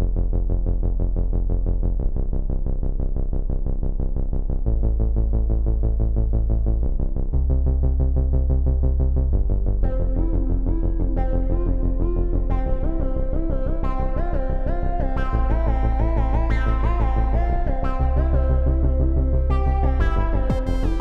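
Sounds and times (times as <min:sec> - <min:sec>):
pulsing synthesizer chords: 0:04.0 - 0:21.0.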